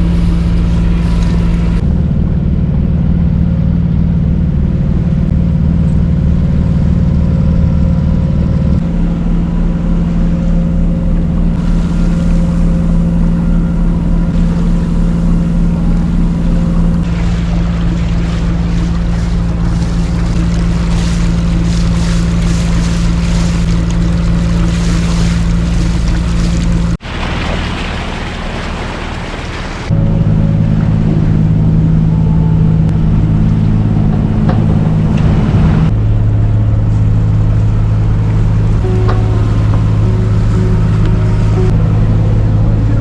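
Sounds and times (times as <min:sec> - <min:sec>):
wind and water rushing: 0:00.0 - 0:03.0, 0:08.8 - 0:43.0
boat engine droning: 0:00.0 - 0:43.0.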